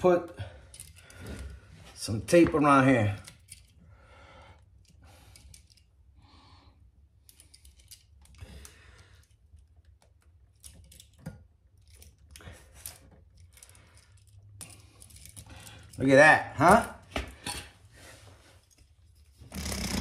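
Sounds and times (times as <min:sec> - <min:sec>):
small clicks and rustles: 0:00.6 - 0:02.0, 0:03.0 - 0:03.9, 0:04.5 - 0:06.1, 0:07.2 - 0:16.0, 0:16.7 - 0:20.0.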